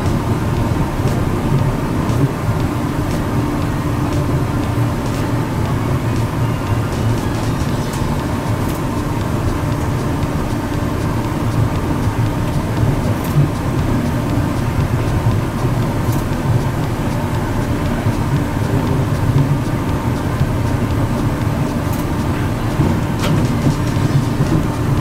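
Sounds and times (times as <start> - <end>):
train tyres and motors rumbling: 0.0 - 25.0.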